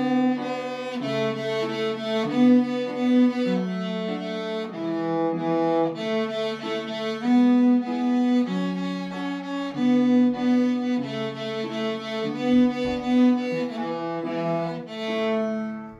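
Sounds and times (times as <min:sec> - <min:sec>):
solo cello melody: 0:00.0 - 0:15.9.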